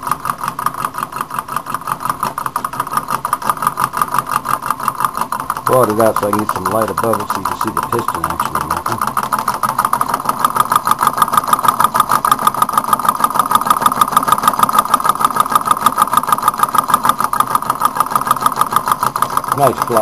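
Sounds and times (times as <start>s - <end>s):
stirling engine clicking: 0.0s - 20.0s.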